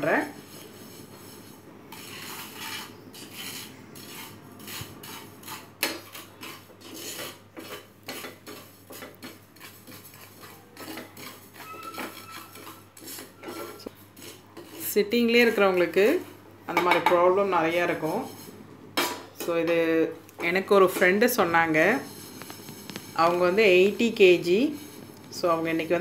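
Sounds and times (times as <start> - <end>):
seeds rasping against pan: 0.0 - 16.3, 20.4 - 26.0
spatula scraping frying pan: 0.0 - 26.0.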